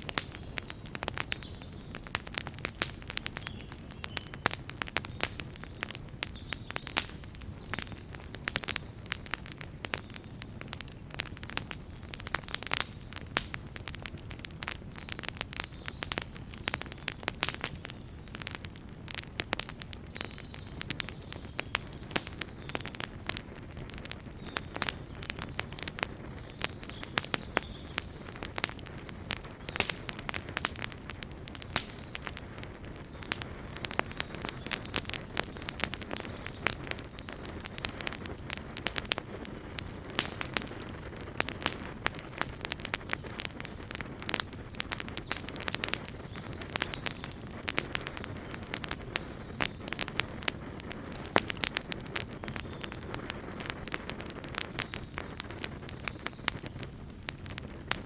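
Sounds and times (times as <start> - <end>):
campfire pops and crackles: 0.0 - 58.0
low hiss of flames: 0.0 - 58.0.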